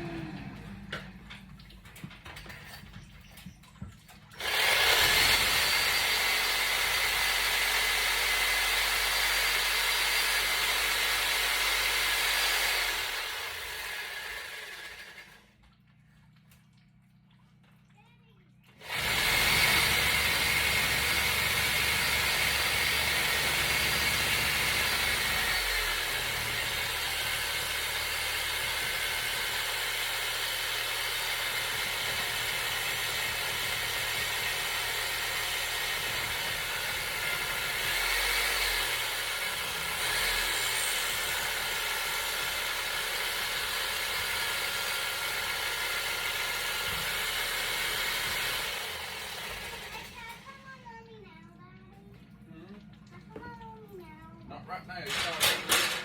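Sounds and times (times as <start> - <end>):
power saw cutting pipe: 0.0 - 1.4, 4.3 - 15.6, 18.7 - 50.8, 54.9 - 56.0.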